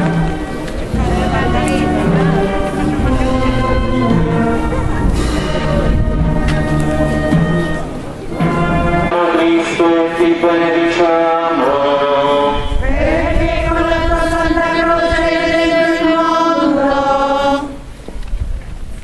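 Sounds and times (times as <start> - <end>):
group singing a slow hymn: 0.0 - 7.5, 8.4 - 17.9.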